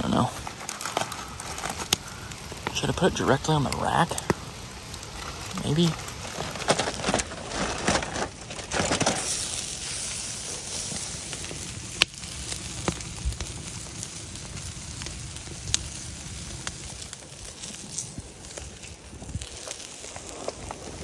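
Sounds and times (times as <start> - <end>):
foil crinkling: 0.0 - 21.0
ribs sizzling on grate: 0.0 - 21.0
wood fire popping: 0.0 - 21.0.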